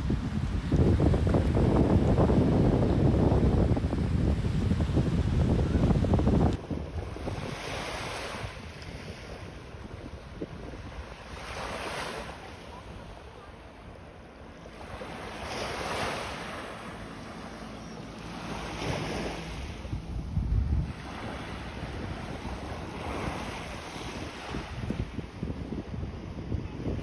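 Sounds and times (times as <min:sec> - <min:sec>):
surf breaking on beach: 0:00.0 - 0:13.6, 0:14.7 - 0:17.6, 0:18.2 - 0:25.7
wind buffeting microphone: 0:00.0 - 0:13.8, 0:14.8 - 0:27.0.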